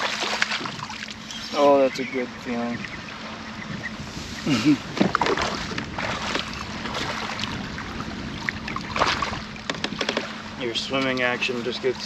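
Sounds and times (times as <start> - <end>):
water splashes: 0.0 - 3.6, 4.2 - 12.0
water around kayak: 0.0 - 12.0
wind: 0.0 - 12.0.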